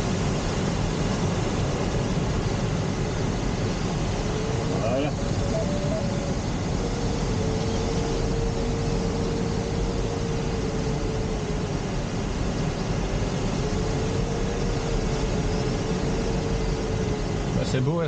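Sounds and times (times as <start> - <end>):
airflow rushing over canopy: 0.0 - 18.0.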